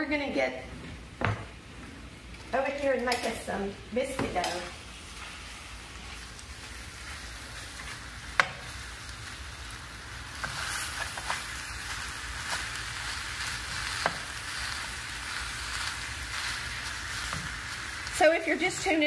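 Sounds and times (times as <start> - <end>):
apples sizzling in a skillet: 2.3 - 19.0.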